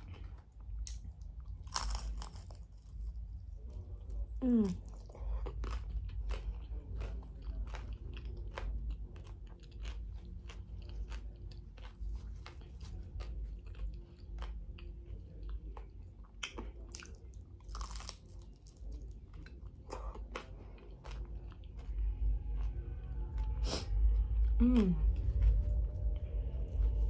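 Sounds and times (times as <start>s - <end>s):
crunchy chewing: 0.0s - 27.0s.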